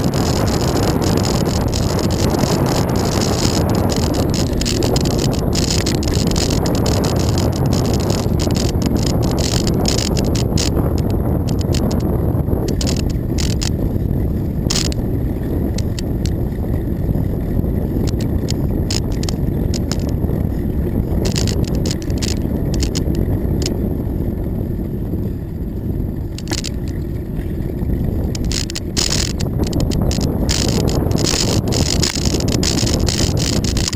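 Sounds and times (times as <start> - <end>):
bicycle clicks and rattles: 0.0 - 33.9
wind rushing over microphone: 0.0 - 33.9.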